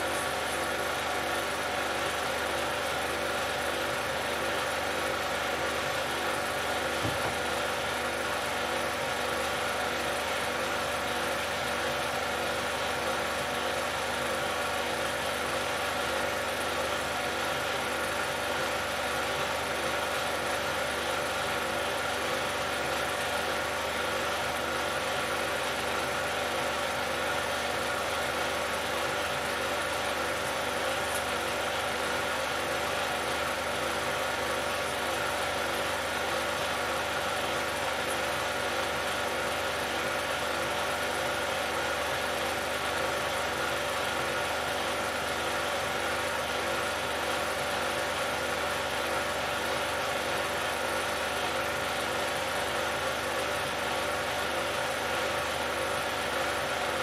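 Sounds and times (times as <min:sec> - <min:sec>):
film projector running: 0:00.0 - 0:57.0.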